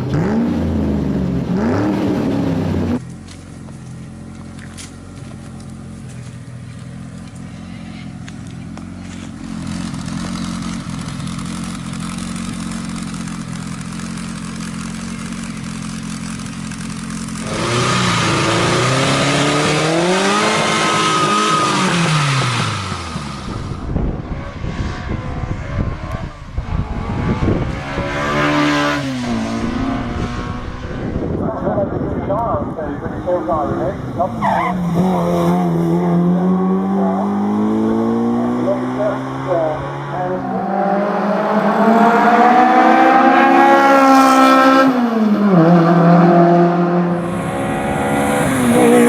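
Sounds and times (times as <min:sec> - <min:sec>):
car engine idling and revving: 0:00.0 - 0:49.0.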